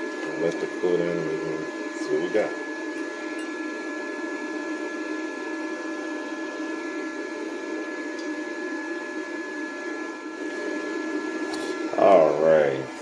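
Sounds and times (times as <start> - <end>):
cooling fan humming: 0.0 - 13.0
thin constant whine: 0.0 - 13.0.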